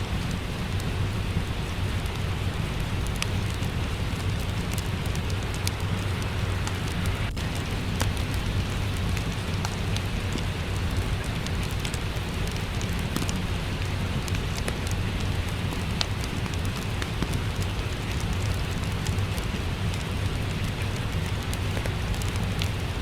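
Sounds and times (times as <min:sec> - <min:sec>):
steady rain hiss: 0:00.0 - 0:23.0
wood fire crackling: 0:00.0 - 0:23.0.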